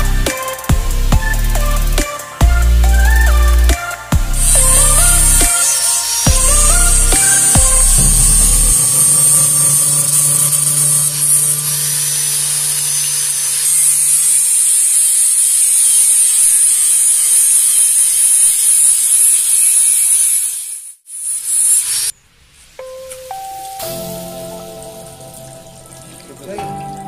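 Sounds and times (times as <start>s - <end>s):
angle grinder cutting metal: 0.0s - 22.1s.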